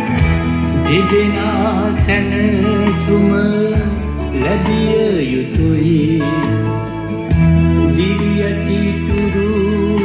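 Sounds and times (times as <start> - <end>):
bass and instrumental accompaniment: 0.0 - 10.0
person singing with vibrato: 0.6 - 10.0.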